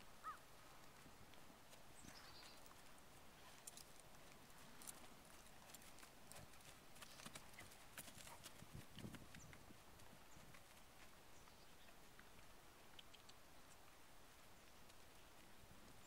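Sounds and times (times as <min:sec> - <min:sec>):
horse hoofbeats on dirt: 0:00.6 - 0:16.0.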